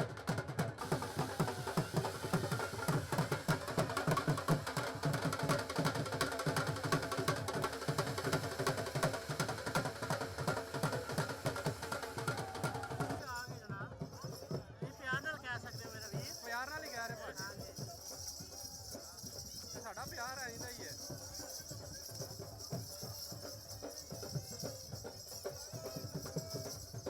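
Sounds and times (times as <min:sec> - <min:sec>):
music with fast drumming: 0:00.0 - 0:27.0.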